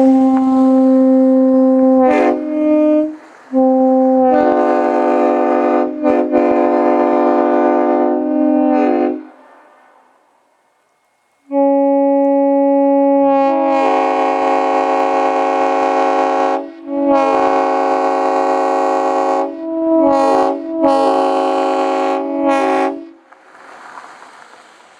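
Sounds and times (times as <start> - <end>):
locomotive air horn chord: 0.0 - 10.3, 11.4 - 23.2.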